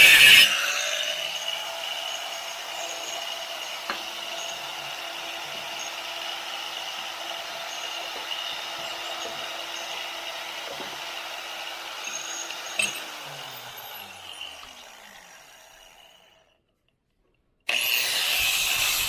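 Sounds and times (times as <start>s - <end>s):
angle grinder whining: 0.0s - 16.6s, 17.7s - 19.0s.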